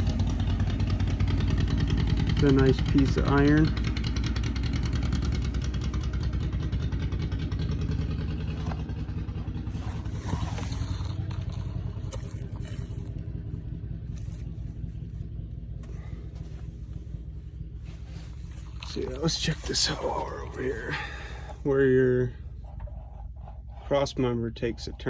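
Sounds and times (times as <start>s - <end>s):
tractor engine driving past: 0.0s - 25.0s.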